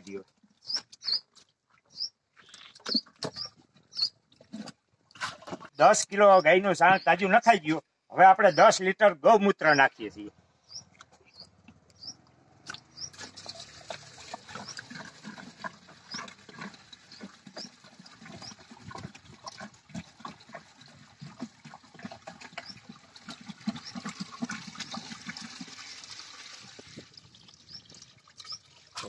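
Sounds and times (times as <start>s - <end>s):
liquid glugging and splashing: 0.0s - 5.8s, 10.8s - 29.0s.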